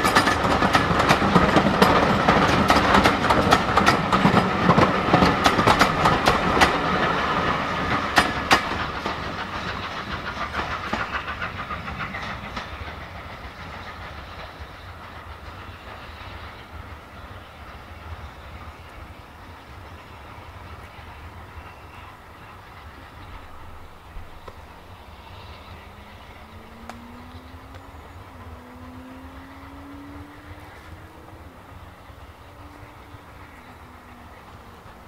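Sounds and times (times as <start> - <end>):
train coaches clattering over rail joints: 0.0 - 35.0.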